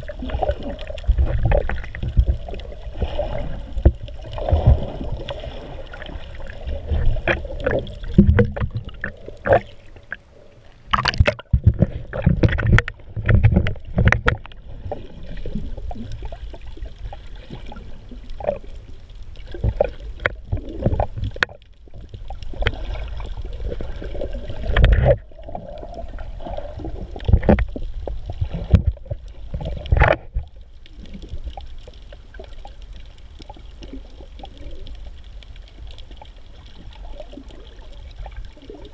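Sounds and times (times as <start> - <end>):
underwater water sloshing: 0.0 - 38.9.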